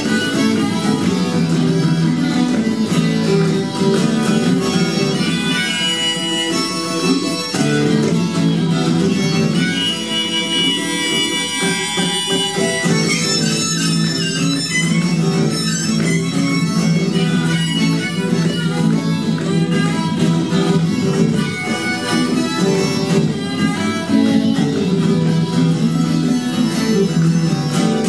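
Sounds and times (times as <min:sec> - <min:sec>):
acoustic guitar strumming: 0:00.0 - 0:28.0
harmonica wailing notes: 0:00.0 - 0:28.0.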